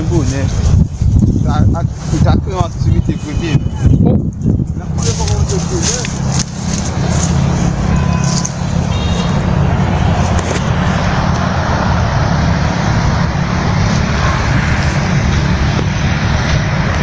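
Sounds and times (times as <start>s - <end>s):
low engine hum: 0.0s - 17.0s
road noise rushing: 0.0s - 17.0s.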